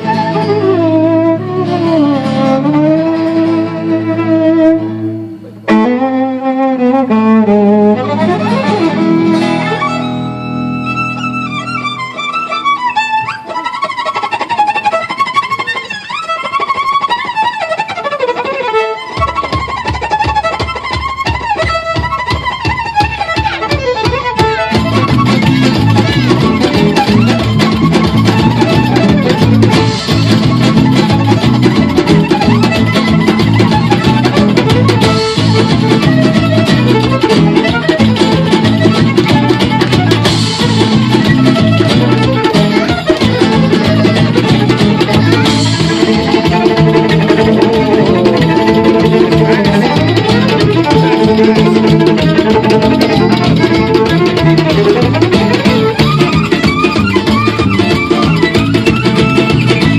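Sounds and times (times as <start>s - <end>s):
live band playing fast tune: 0.0s - 59.9s.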